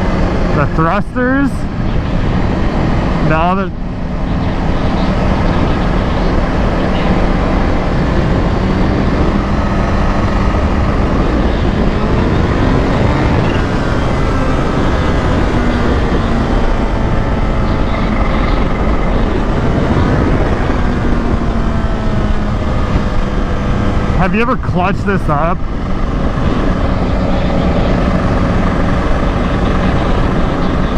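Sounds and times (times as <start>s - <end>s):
motorcycle engine accelerating: 0.0s - 30.9s
wind rush: 0.0s - 30.9s.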